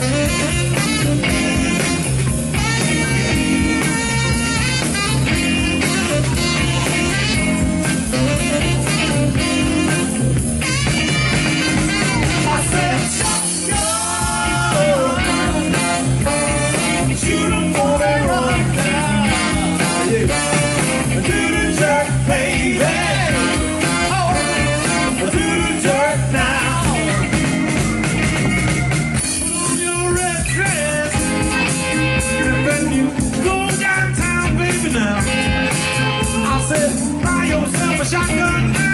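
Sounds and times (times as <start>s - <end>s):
saxophone wailing lead: 0.0s - 33.9s, 35.2s - 37.6s
soul band playing groove: 0.0s - 38.9s.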